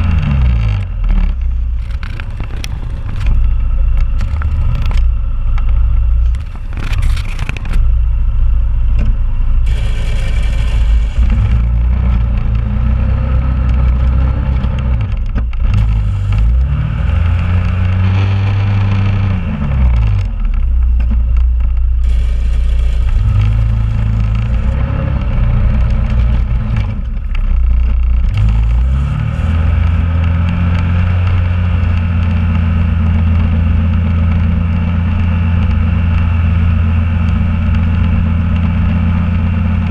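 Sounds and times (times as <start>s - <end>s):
plow blade scraping: 0.0s - 7.9s, 9.0s - 21.3s, 22.0s - 39.9s.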